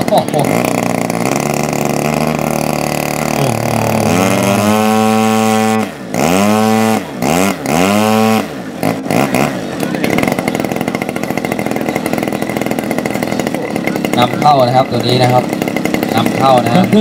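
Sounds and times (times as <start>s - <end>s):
model plane engine revving: 0.0s - 17.0s.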